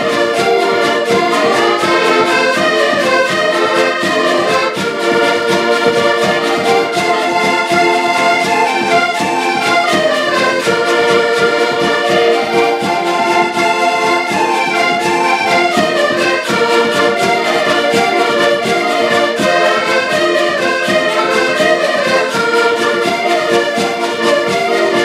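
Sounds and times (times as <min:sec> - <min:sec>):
accordions playing folk tune: 0:00.0 - 0:25.0.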